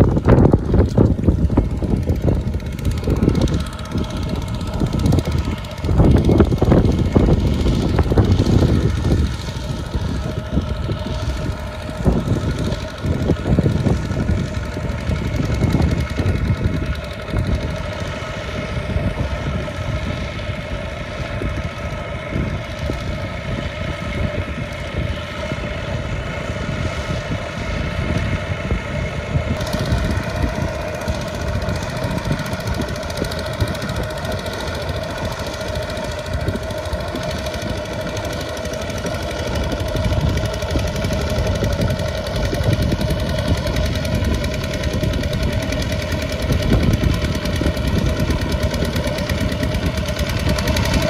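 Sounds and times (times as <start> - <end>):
diesel engine chugging under load: 0.0 - 51.0.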